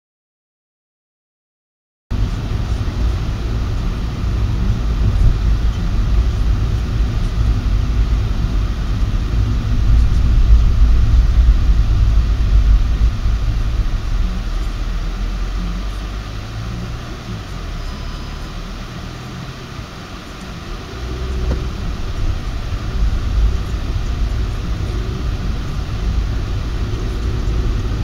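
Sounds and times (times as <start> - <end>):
car cabin road and engine rumble: 2.1 - 28.0.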